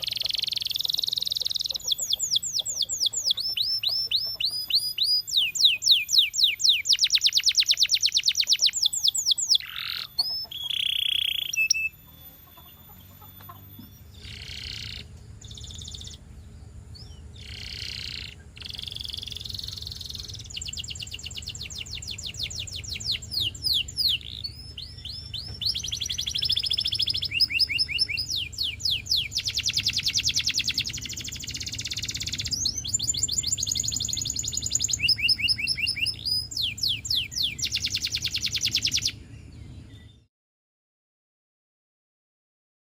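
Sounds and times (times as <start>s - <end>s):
canary singing trills: 0.0s - 40.3s
low background hum: 0.0s - 40.3s.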